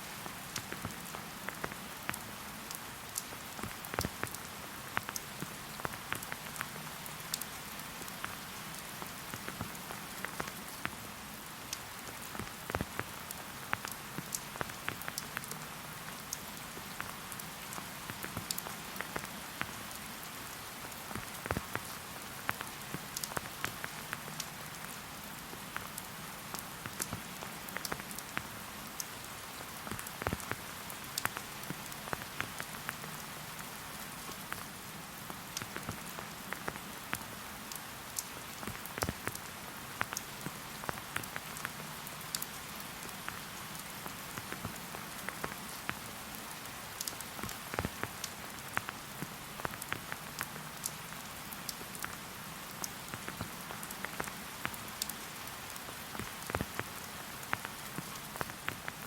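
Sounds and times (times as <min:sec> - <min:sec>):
raindrops ticking close by: 0:00.0 - 0:59.0.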